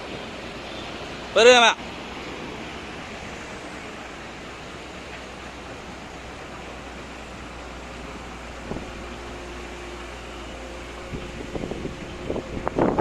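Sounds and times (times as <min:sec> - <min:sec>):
excavator engine running: 0:00.0 - 0:13.0
faint steady whine: 0:00.0 - 0:13.0.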